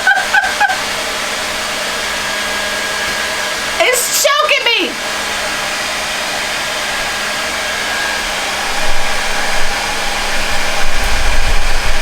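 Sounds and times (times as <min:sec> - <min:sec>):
blow dryer air rushing: 0:00.0 - 0:12.0.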